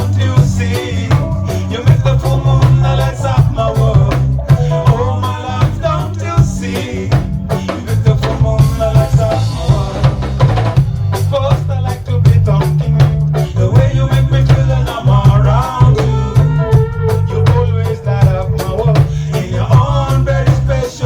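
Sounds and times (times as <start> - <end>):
drum kit steady beat: 0.0 - 21.0
heavy bass line: 0.0 - 21.0
reggae band playing: 0.0 - 21.0.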